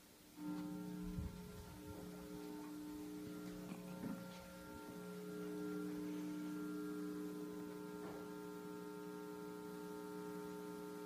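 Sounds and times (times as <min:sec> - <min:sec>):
guitar amplifier mains hum: 0:00.0 - 0:11.0.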